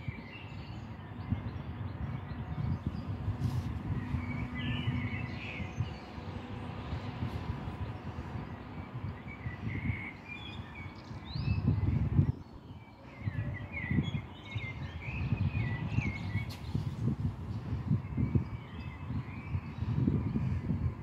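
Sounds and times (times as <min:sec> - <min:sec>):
songbirds chirping: 0:00.0 - 0:21.0
wind buffeting microphone: 0:00.0 - 0:21.0.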